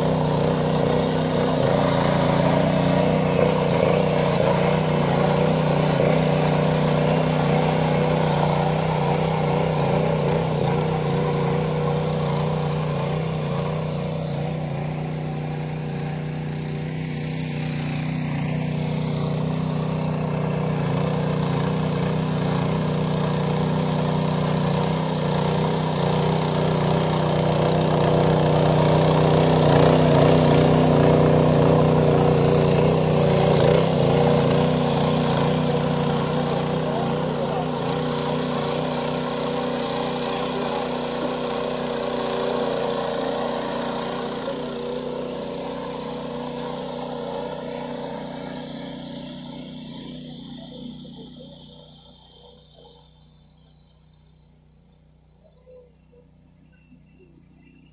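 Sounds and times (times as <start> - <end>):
small petrol engine running: 0.0 - 57.9.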